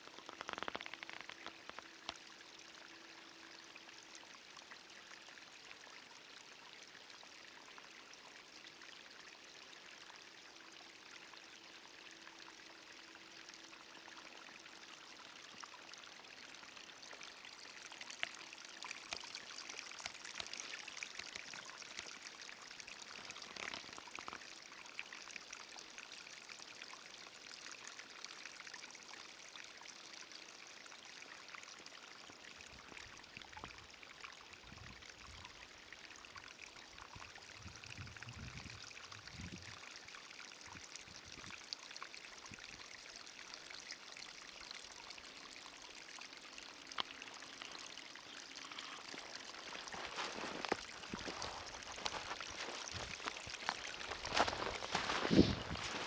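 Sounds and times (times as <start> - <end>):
stream water rushing and trickling: 0.0 - 56.0.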